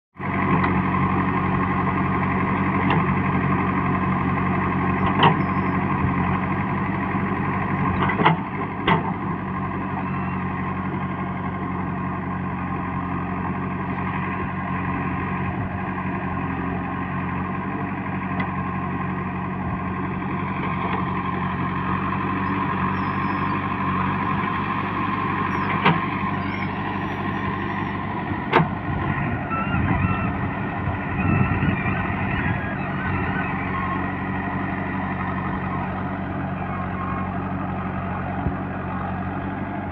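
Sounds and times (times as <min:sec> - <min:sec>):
diesel engine running: 0:00.2 - 0:39.9.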